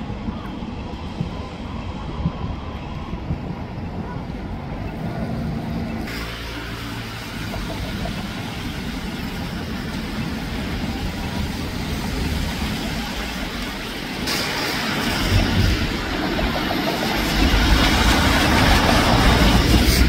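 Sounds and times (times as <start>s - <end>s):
road traffic passing: 2.8s - 20.0s.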